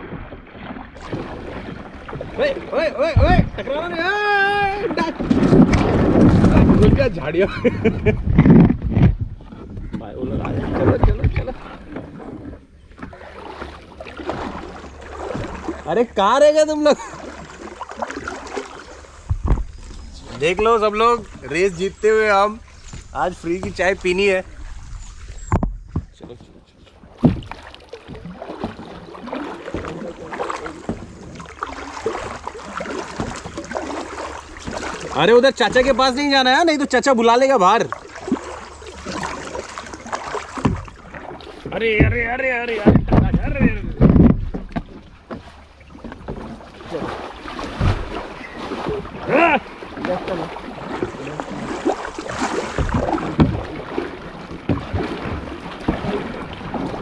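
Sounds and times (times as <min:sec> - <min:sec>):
paddle splashing in water: 0:00.0 - 0:57.0.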